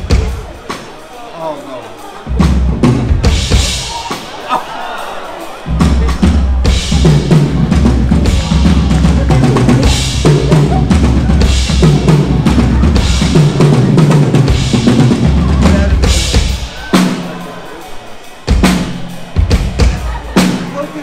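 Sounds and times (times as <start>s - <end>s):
live drum kit music: 0.0s - 21.0s.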